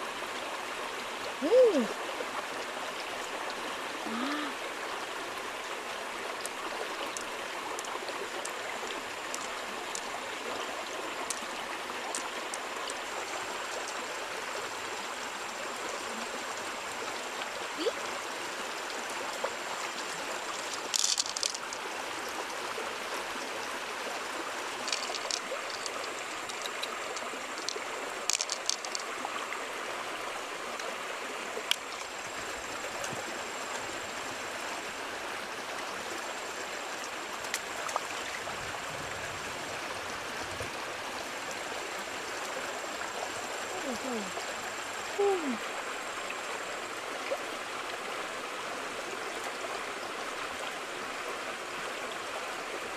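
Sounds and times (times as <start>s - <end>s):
stream running over stones: 0.0s - 52.9s.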